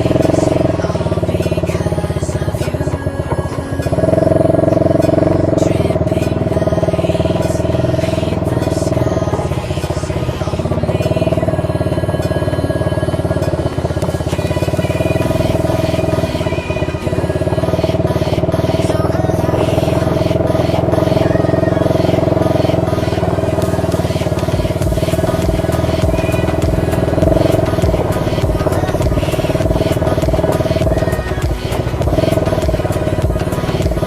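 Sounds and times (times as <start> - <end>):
atv engine running: 0.0 - 34.0
music with steady beat: 0.0 - 34.0.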